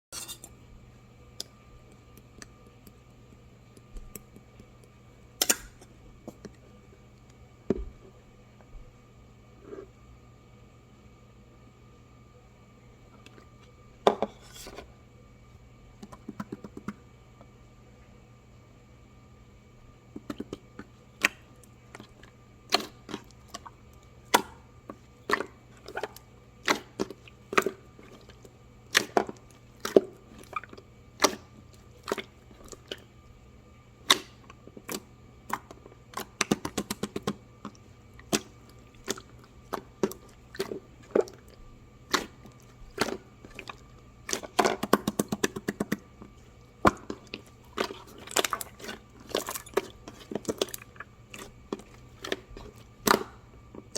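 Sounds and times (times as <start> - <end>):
faint steady hum: 0.1 - 53.9.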